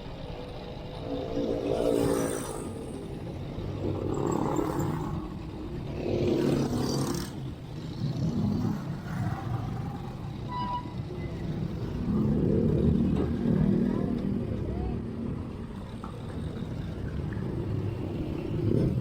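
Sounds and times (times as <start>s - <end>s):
vehicles passing: 0.0s - 19.0s
wind and road rumble: 0.0s - 19.0s.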